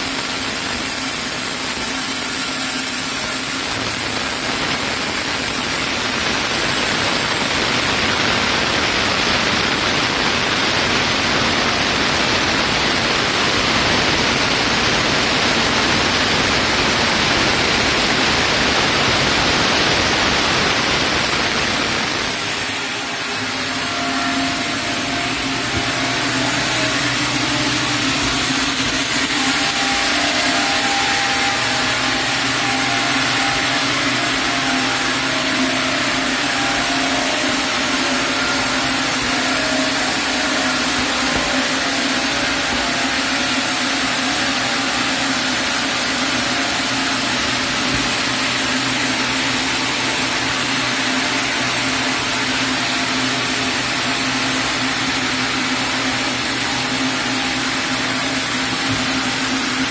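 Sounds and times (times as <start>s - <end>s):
machine humming: 0.0s - 59.9s
sawmill saw cutting log: 0.0s - 59.9s.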